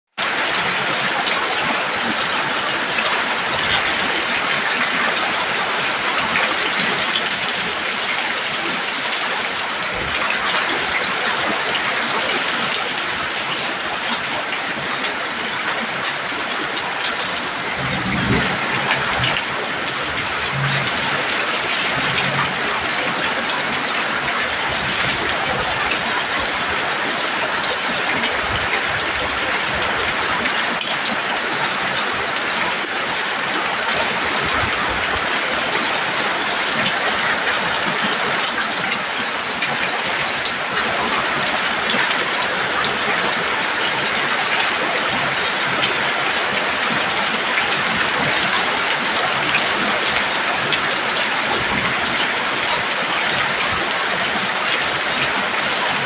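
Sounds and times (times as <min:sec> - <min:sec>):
heavy rain on a roof: 0:00.1 - 0:56.0.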